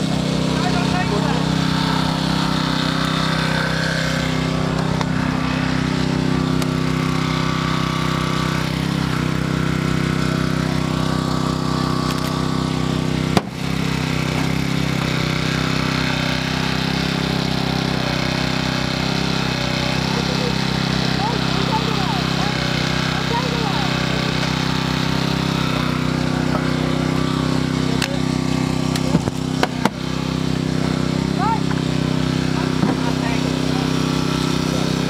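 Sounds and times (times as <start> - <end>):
small petrol engine running steadily: 0.0 - 35.0.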